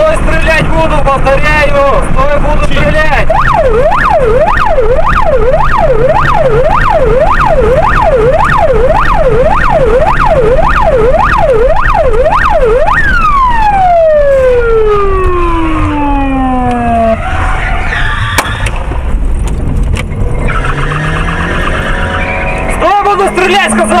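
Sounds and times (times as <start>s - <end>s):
car engine and road noise: 0.0s - 24.0s
police siren yelping: 2.8s - 18.7s, 20.4s - 24.0s.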